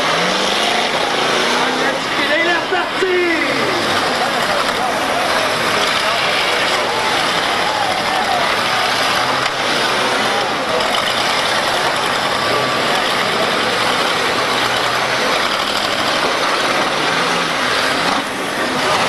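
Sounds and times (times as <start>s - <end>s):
car engines running together: 0.0s - 19.0s.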